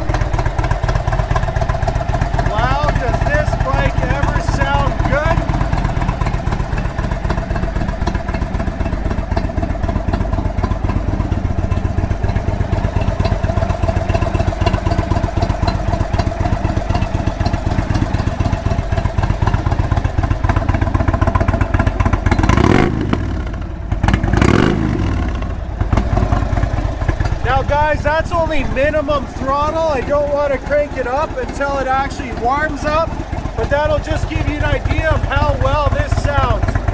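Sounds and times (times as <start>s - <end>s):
engine throttle blips: 0.0s - 36.9s
motorcycle engine idling: 0.0s - 36.9s.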